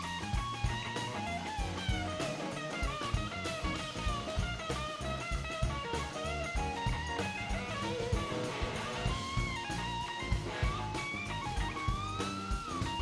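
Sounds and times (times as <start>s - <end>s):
bass: 0.0s - 13.0s
drum kit: 0.0s - 13.0s
electric guitar lead line: 0.0s - 13.0s.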